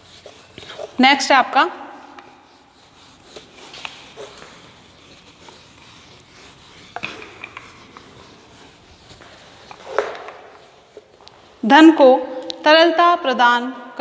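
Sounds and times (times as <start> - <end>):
marker squeaking on whiteboard: 0.0 - 11.4
duster wiping whiteboard: 0.0 - 12.2.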